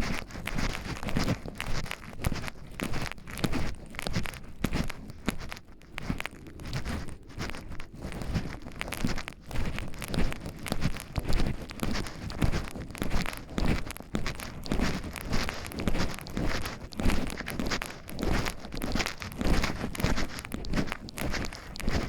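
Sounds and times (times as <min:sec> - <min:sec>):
footsteps on forest path: 0:00.0 - 0:22.0.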